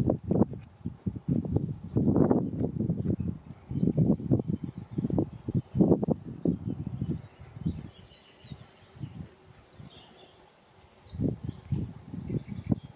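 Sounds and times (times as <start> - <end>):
low rustling and buffeting: 0.0 - 10.2, 11.1 - 12.9.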